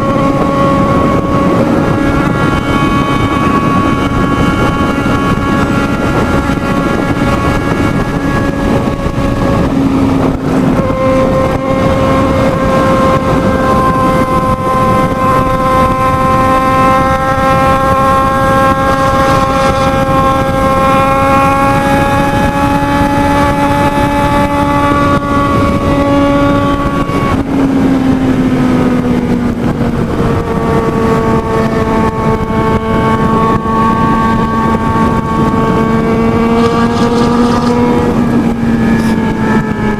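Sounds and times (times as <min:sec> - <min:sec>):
motorcycle engine at high revs: 0:00.0 - 0:39.9
wind buffeting microphone: 0:00.0 - 0:39.9.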